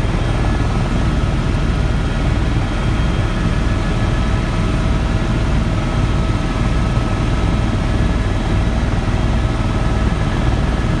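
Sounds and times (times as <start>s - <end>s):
helicopter rotor and engine noise: 0.0s - 11.0s.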